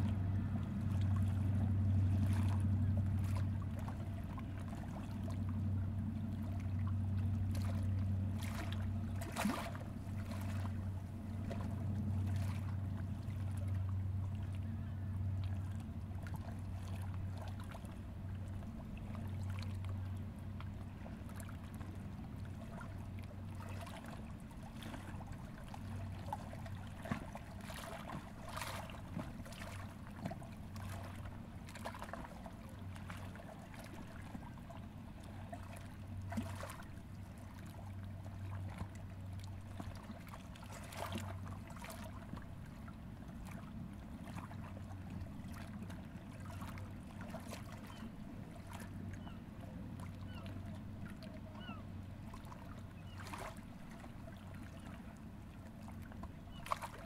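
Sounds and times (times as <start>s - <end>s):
river water lapping on rocks: 0.0s - 49.4s, 50.0s - 57.0s
small water splashes: 0.0s - 57.0s
steady low hum: 0.0s - 57.0s.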